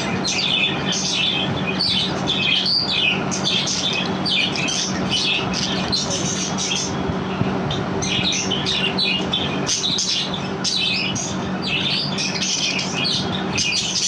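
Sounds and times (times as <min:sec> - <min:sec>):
budgerigars chattering: 0:00.0 - 0:07.0, 0:07.7 - 0:14.0
steady low hum: 0:00.0 - 0:14.0.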